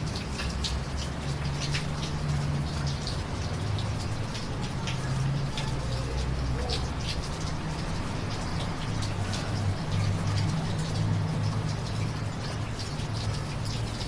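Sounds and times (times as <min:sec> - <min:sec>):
drips splashing on hard surface: 0:00.0 - 0:14.0
steady rain falling: 0:00.0 - 0:14.0.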